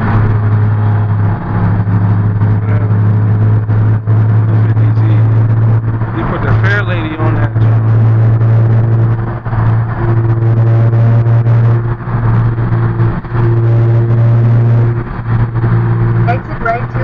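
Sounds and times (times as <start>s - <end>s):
car engine droning inside cabin: 0.0s - 17.0s.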